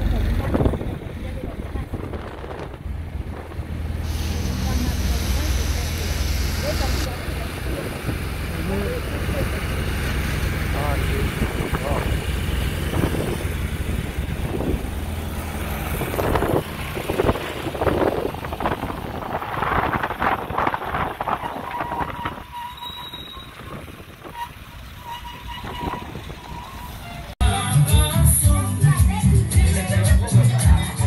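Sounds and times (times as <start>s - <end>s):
road and wind noise: 0.0s - 27.4s
vehicle engine running: 0.0s - 31.0s.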